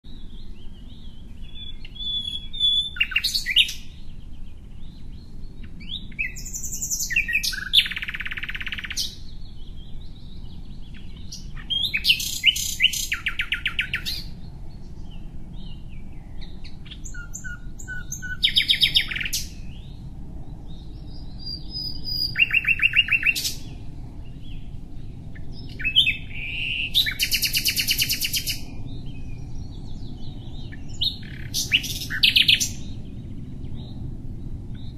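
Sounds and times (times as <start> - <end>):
songbird singing with trills: 0.0 - 34.9
low background noise: 0.1 - 34.9.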